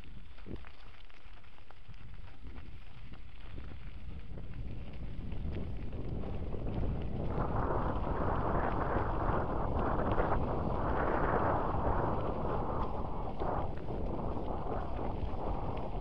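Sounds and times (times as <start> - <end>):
tyres rolling on gravel: 0.0 - 16.0
wind buffeting microphone: 1.8 - 16.0.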